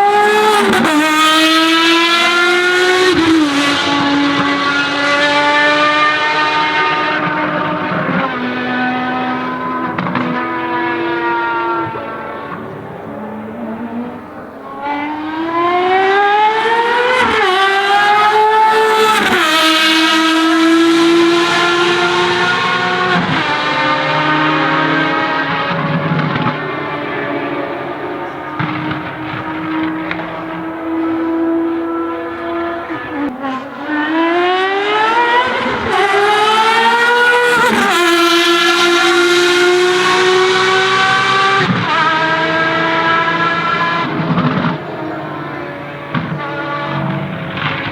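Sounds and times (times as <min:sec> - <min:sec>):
engine accelerating hard: 0:00.0 - 0:47.9.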